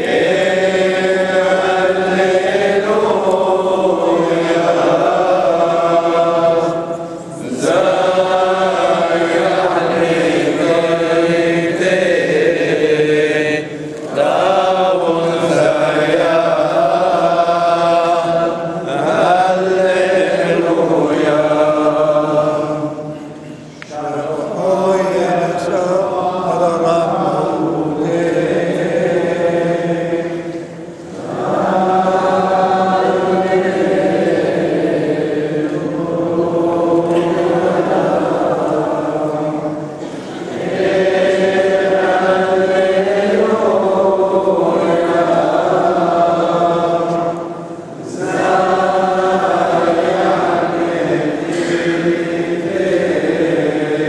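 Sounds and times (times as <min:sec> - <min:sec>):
men chanting in unison: 0:00.0 - 0:23.2, 0:23.9 - 0:54.0.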